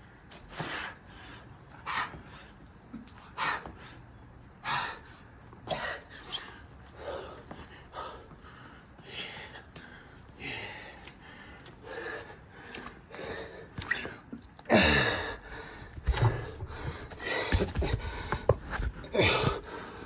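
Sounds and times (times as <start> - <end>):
man panting and gasping: 0.0 - 20.0.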